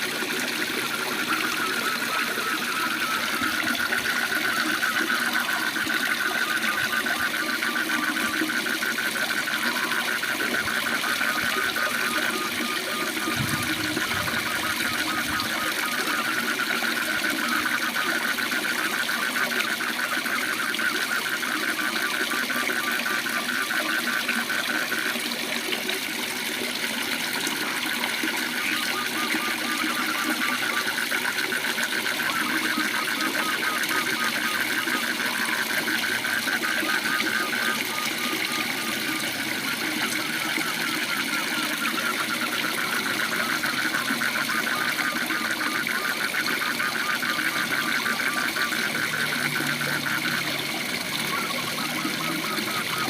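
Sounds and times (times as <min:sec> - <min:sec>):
frogs trilling: 0:00.0 - 0:53.0.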